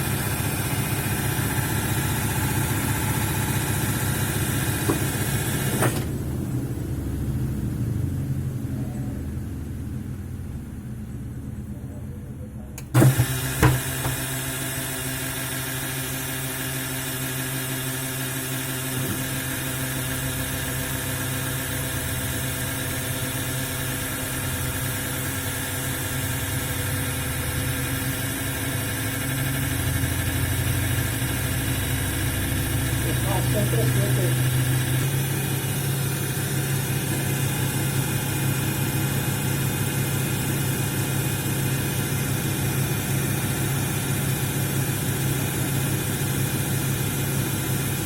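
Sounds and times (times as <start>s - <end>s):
washing machine spinning: 0.0s - 12.0s, 12.8s - 48.0s.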